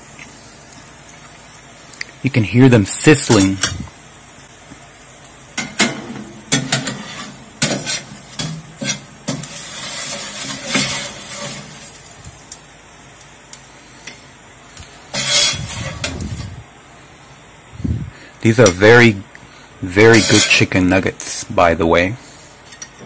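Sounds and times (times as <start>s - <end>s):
food sizzling on metal tray: 0.0s - 17.4s, 18.1s - 22.4s.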